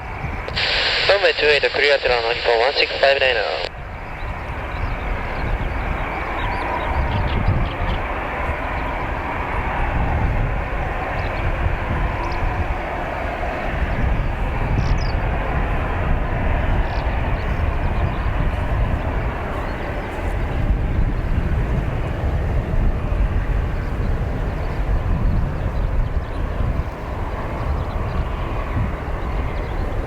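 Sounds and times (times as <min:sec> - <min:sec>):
aircraft engines rumbling: 0:00.0 - 0:30.0
wind noise on microphone: 0:00.0 - 0:30.0.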